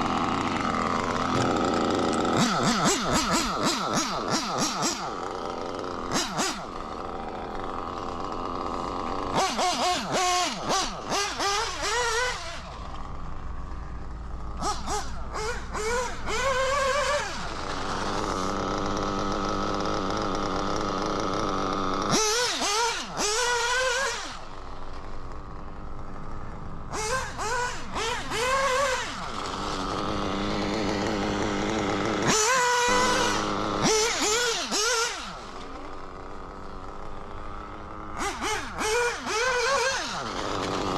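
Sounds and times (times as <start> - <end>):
nitro engine revving and idling: 0.0 - 40.9.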